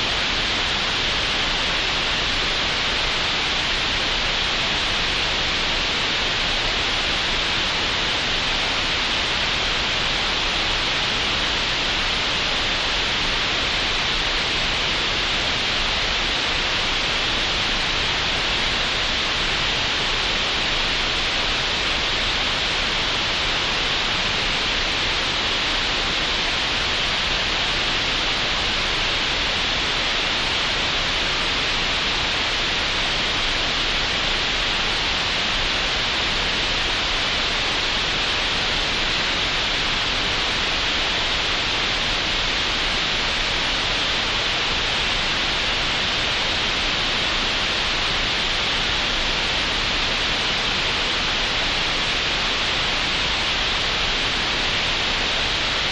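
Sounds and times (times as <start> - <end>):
green noise hiss: 0.0 - 55.9.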